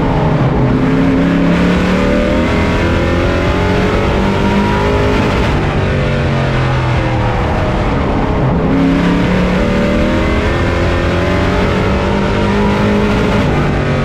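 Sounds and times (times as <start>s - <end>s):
race truck engine at speed: 0.0s - 14.0s.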